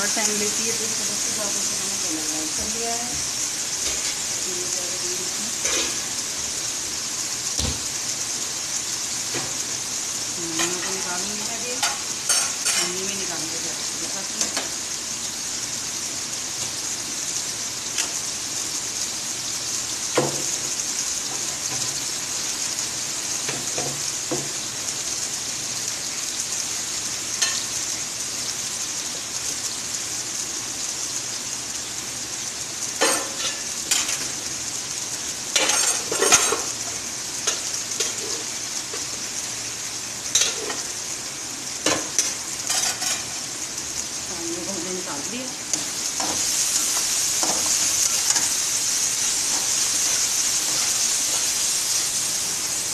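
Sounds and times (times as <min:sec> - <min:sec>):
food sizzling in oil: 0:00.0 - 0:52.9.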